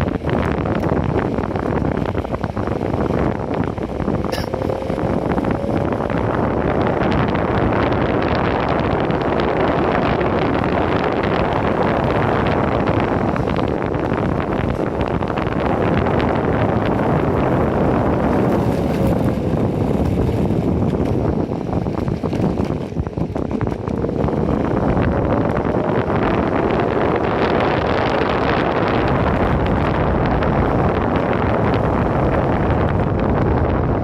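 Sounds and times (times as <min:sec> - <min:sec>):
skateboard ride rushing: 0:00.0 - 0:34.0
wind buffeting microphone: 0:00.0 - 0:34.0.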